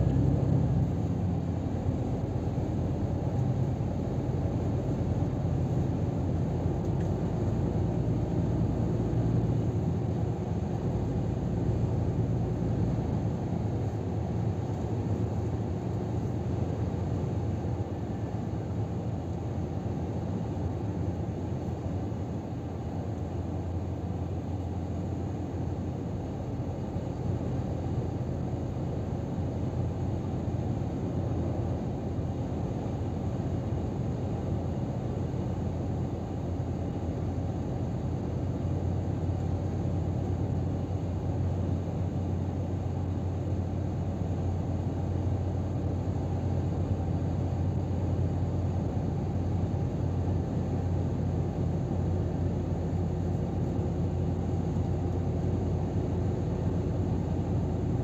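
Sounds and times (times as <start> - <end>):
truck engine and tyre rumble: 0.0 - 58.0.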